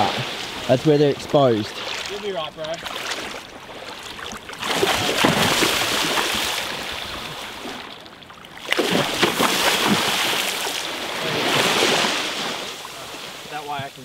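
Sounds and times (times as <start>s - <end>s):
water splashing and surging: 0.0s - 14.0s.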